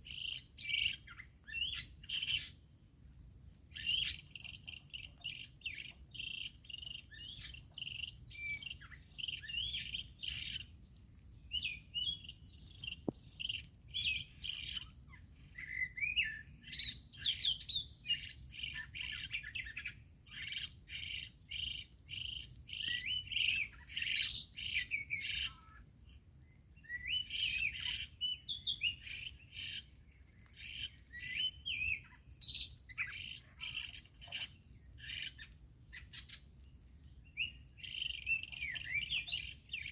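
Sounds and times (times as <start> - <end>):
songbirds chirping and singing: 0.0 - 2.7, 3.7 - 39.9.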